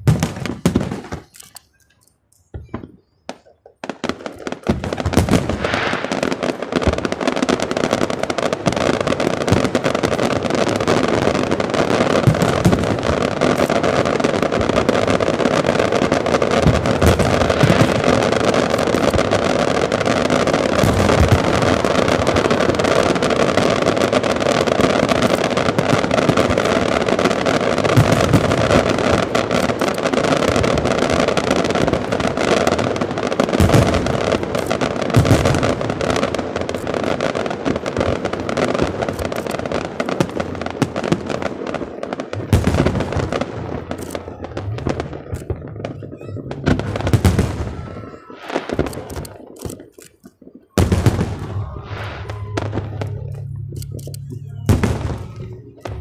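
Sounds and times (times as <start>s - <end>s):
deep fireworks thumps: 0.0s - 1.3s, 2.5s - 56.0s
fireworks crackling and bangs: 0.0s - 56.0s.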